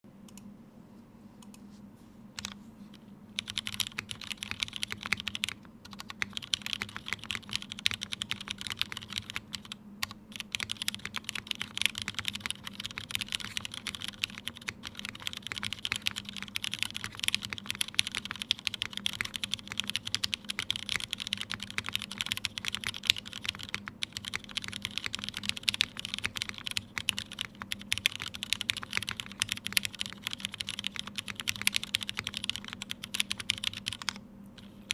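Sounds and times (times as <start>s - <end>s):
mechanical keyboard typing: 2.4s - 2.6s, 3.4s - 34.9s.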